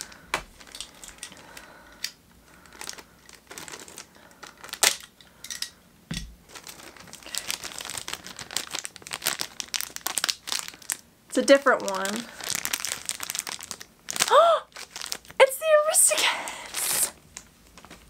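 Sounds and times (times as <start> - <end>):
plastic bag crinkling: 0.0 - 5.6, 6.4 - 18.0.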